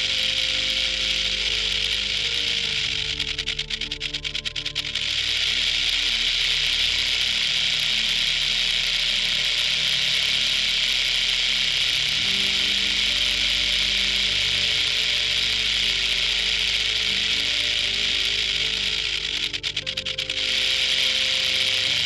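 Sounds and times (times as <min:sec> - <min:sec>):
rattlesnake tail rattle buzzing: 0:00.0 - 0:22.0.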